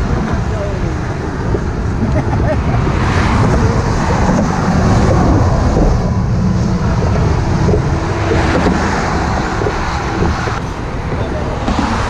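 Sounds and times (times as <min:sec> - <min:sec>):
highway traffic rushing: 0:00.0 - 0:12.0
wind buffeting microphone: 0:00.0 - 0:12.0.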